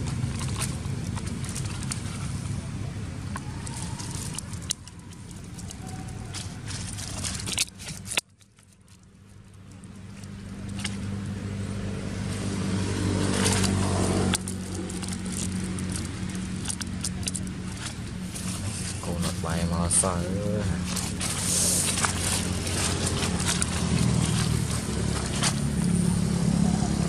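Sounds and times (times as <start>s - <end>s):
crackles and clicks: 0.0s - 11.5s, 12.3s - 27.0s
vehicle engine hum: 0.0s - 27.0s.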